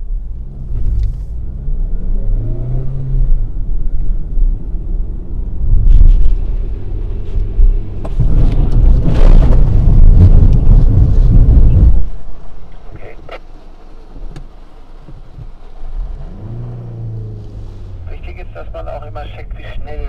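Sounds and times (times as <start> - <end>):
car engine accelerating: 0.0 - 13.5, 14.3 - 20.0
road rumble: 0.0 - 20.0.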